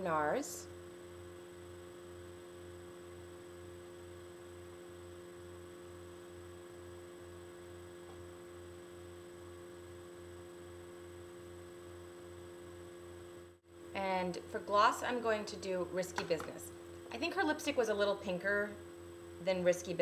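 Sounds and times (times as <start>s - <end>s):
pulsing electrical hum: 0.0s - 20.0s.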